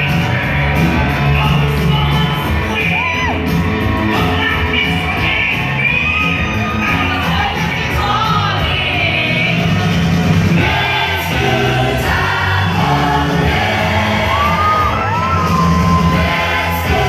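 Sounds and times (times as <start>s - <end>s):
loud music with singing voices: 0.0s - 17.0s
steady bass line: 0.0s - 17.0s.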